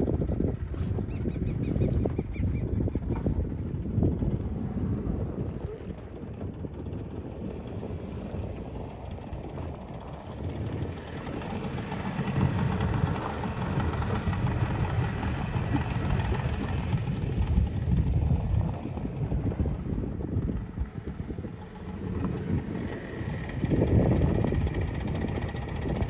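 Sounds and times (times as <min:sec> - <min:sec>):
outboard motor rumbling: 0:00.0 - 0:26.0.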